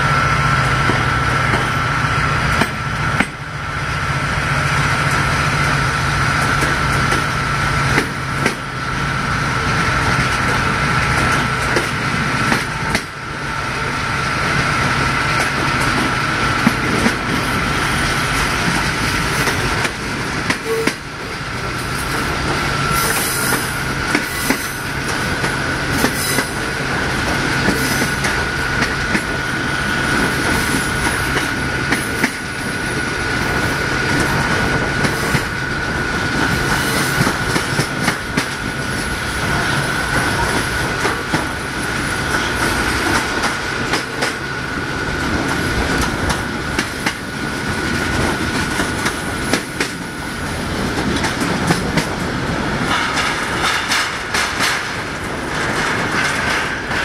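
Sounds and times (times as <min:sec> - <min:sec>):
train wheel and rail noise: 0:00.0 - 0:57.0.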